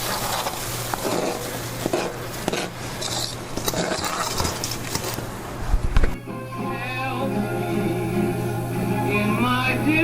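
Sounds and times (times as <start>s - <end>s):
room noise: 0.0s - 10.0s.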